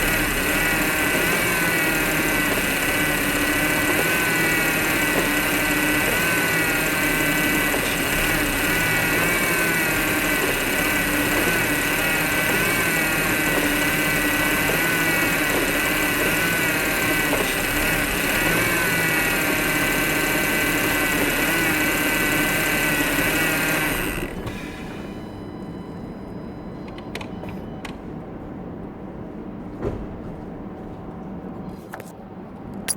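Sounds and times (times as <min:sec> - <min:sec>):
car engine idling with whine: 0:00.0 - 0:28.1.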